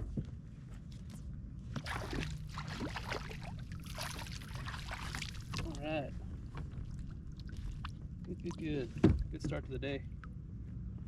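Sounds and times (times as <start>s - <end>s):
water sloshing and trickling: 0.9s - 10.5s.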